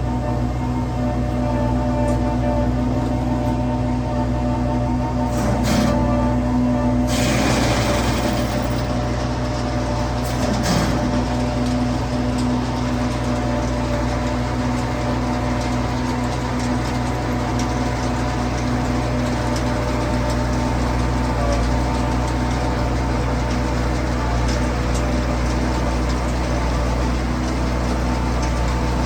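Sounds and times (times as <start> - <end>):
farm machinery engine running: 0.0 - 29.0.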